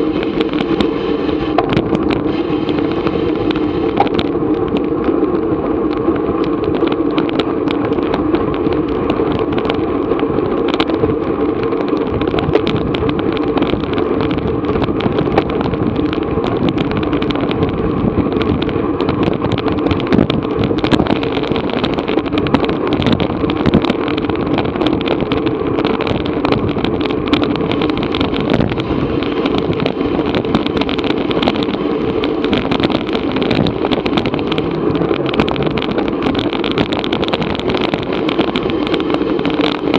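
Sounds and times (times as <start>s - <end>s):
bicycle rattles and clicks: 0.0s - 39.9s
wind rushing over microphone: 0.0s - 39.9s.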